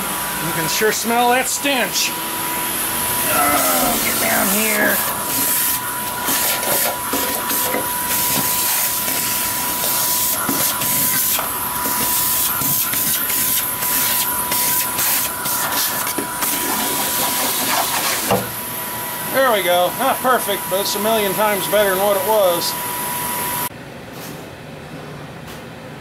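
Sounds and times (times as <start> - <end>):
vacuum cleaner whine: 0.0 - 23.7.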